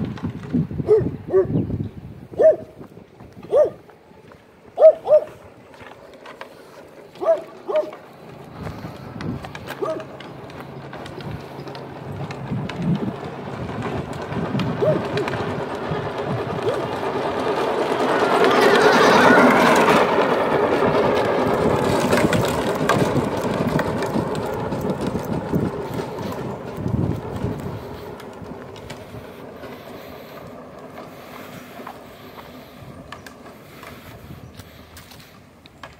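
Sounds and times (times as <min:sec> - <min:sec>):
electric trike motor and wheels: 0:00.0 - 0:35.9.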